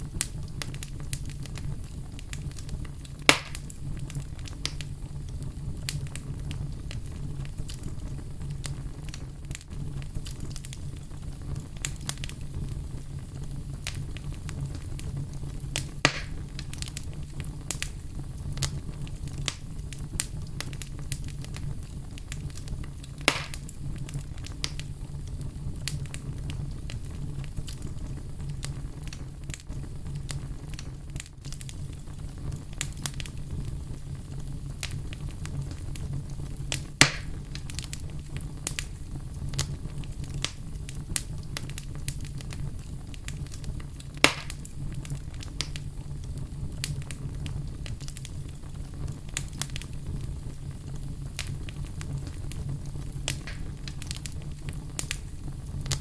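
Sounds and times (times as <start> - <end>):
fire crackling and popping: 0.0 - 56.0
flames rumbling: 0.0 - 56.0.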